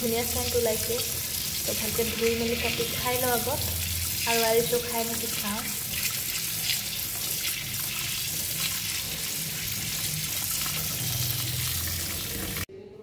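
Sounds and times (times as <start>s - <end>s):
tap water running and splashing: 0.0s - 12.7s.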